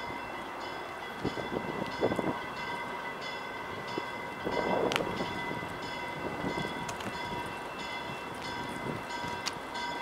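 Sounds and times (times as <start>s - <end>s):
bell ringing: 0.0s - 10.0s
passenger train running: 0.0s - 10.0s.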